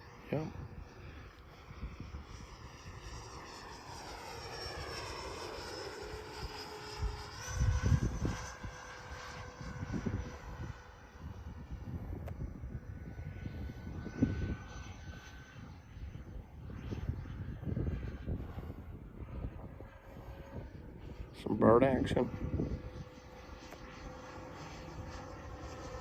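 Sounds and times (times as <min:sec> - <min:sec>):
electric ducted fans whining: 0:00.0 - 0:26.0.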